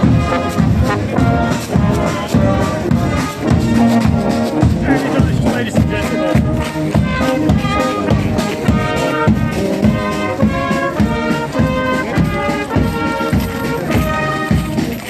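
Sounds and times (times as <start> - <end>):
marching brass band playing: 0.0 - 15.0
steady drum beat: 0.0 - 15.0.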